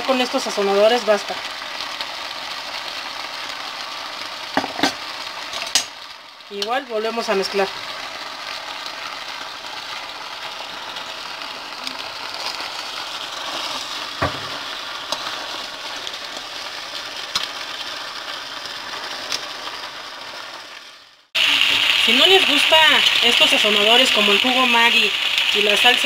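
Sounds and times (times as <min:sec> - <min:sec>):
meat and vegetables sizzling: 0:00.0 - 0:26.0.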